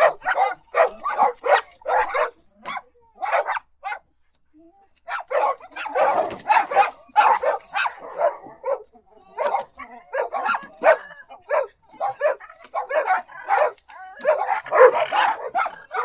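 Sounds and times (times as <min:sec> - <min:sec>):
dog barking: 0:00.0 - 0:04.1, 0:05.1 - 0:16.0.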